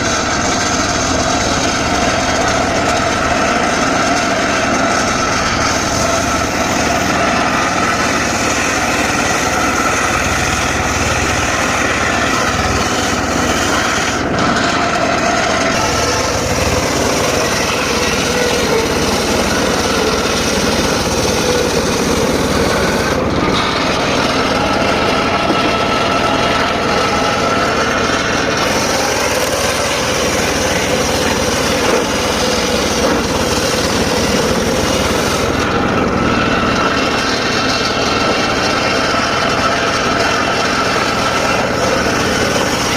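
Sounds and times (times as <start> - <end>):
circular sawmill sawing wood: 0.0 - 42.9.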